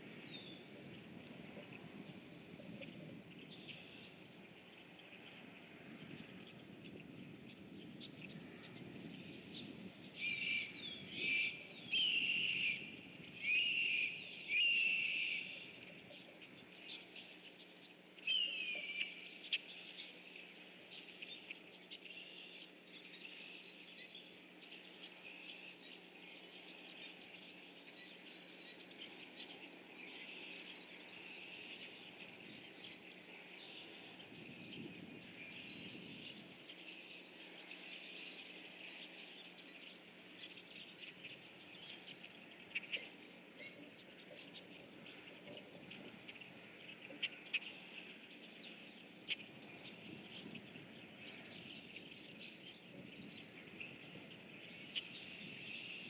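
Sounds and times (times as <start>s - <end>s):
chatter of many birds: 0.0s - 56.0s
blackbirds harsh calls: 7.4s - 56.0s.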